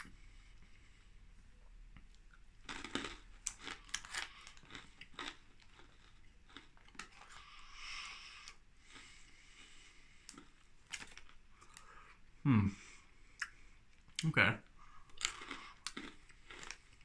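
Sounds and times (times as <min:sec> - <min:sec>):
person chewing crunchy pretzels: 0:01.6 - 0:12.3, 0:13.0 - 0:17.0.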